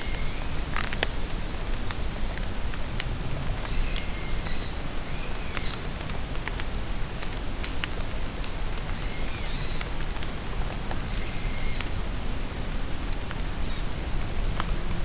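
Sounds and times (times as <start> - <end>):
rain pattering on leaves: 0.0 - 15.0.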